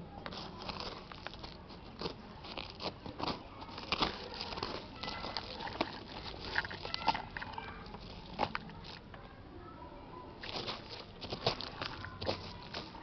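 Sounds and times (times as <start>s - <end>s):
fingers scraping through dry soil: 0.3s - 9.0s, 10.4s - 13.0s.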